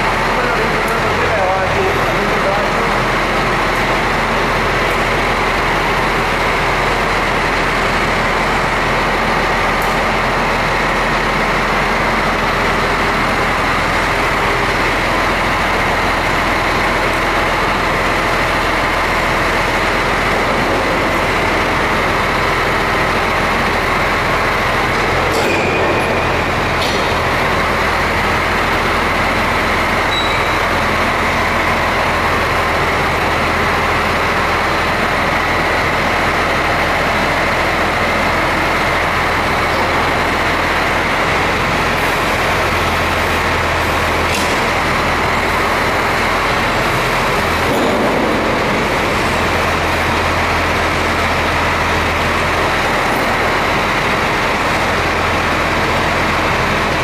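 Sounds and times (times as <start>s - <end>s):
factory machinery rush and hum: 0.0s - 57.0s.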